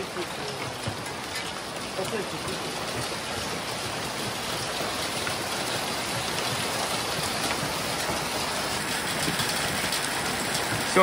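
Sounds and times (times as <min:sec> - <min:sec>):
rain on gravel and lumber: 0:00.0 - 0:11.0.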